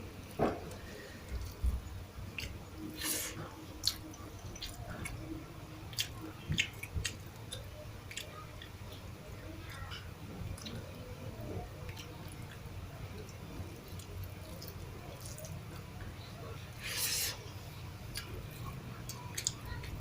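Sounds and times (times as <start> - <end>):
chewing food: 0.2 - 20.0.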